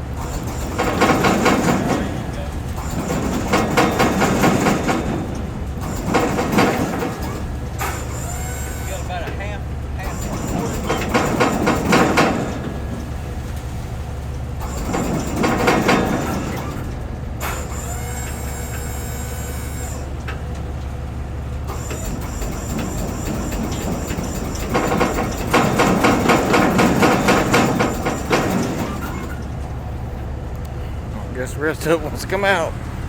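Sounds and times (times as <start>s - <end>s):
loud rattling and scraping: 0.0s - 30.5s
diesel engine running: 0.0s - 33.0s.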